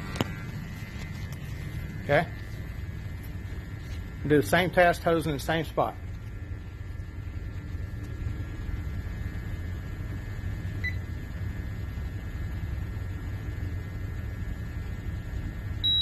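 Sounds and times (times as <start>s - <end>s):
faint high whine: 0.0s - 16.0s
steady low hum: 0.0s - 16.0s.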